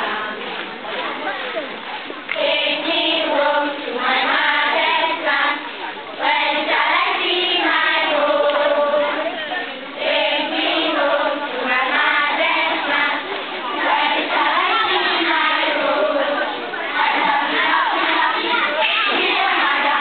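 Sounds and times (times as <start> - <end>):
children singing in unison: 0.0 - 1.7, 2.3 - 20.0.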